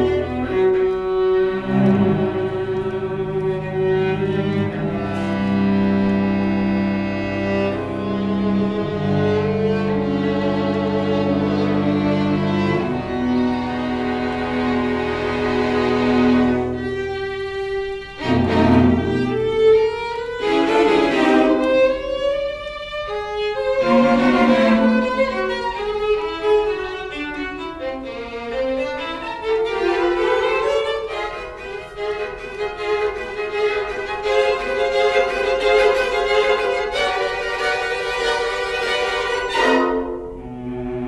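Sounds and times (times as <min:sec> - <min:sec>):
string quartet playing: 0:00.0 - 0:41.0.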